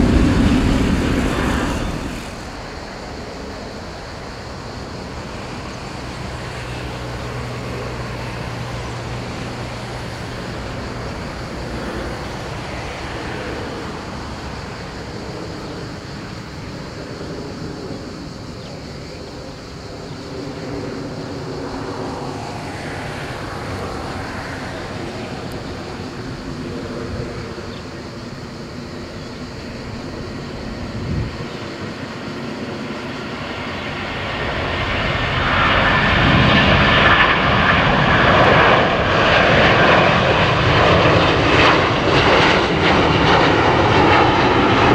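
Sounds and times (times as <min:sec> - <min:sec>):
jet engines rumbling and whining: 0:00.0 - 0:44.9.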